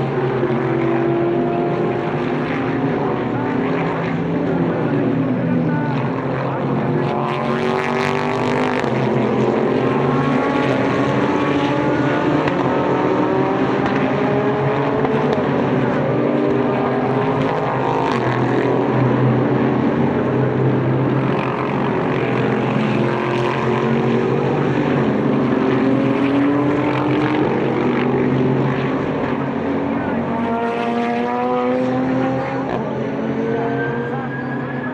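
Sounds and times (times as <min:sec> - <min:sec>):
race car engines passing: 0:00.0 - 0:34.9.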